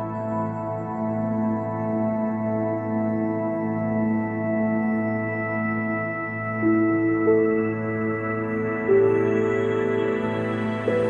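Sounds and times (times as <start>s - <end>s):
ambient music with sustained tones: 0.0s - 11.0s.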